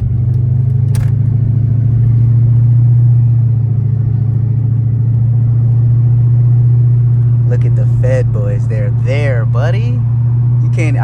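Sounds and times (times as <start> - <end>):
car exhaust drone: 0.0 - 11.0.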